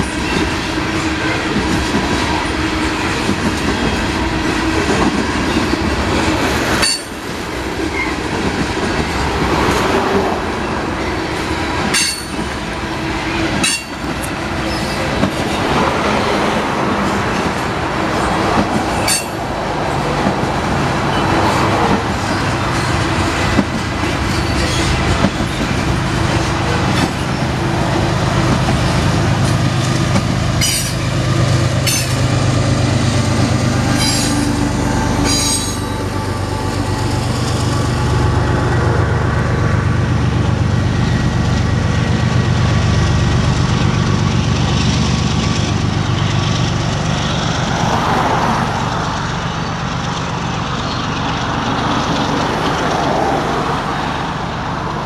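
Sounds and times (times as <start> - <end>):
diesel locomotive engine drone: 0.0 - 55.0
freight train rolling past: 0.0 - 55.0.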